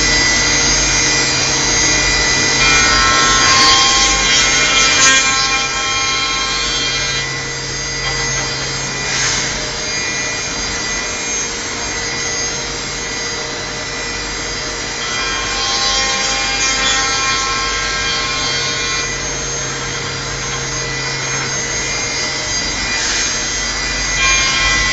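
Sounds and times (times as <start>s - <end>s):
spindle whine: 0.0s - 24.9s.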